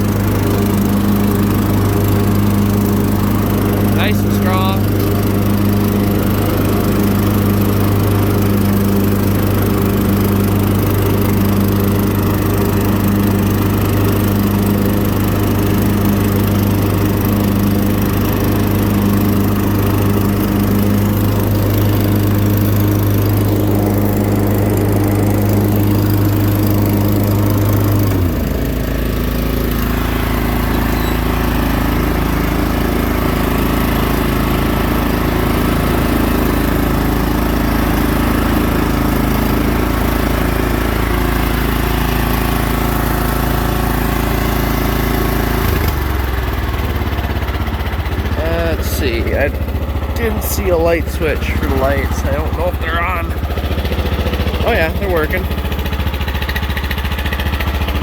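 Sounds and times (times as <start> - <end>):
riding lawnmower engine running: 0.0 - 58.0.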